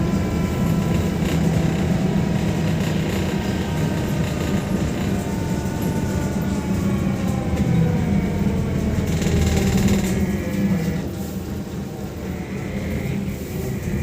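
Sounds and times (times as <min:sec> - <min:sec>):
trolleybus running rumble: 0:00.0 - 0:14.0.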